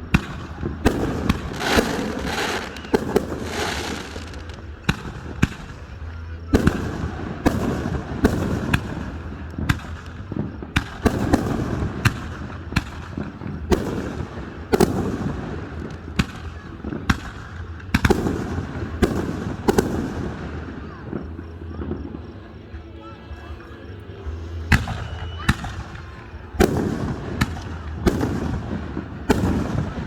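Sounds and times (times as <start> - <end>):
continuous rumble: 0.0 - 30.0
fireworks bangs: 0.0 - 30.0.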